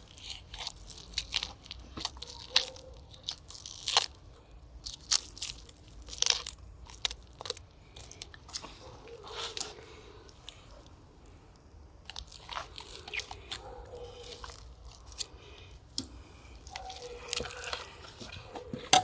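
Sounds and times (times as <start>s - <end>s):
knife crunching through fish: 0.0s - 10.6s, 12.0s - 19.0s.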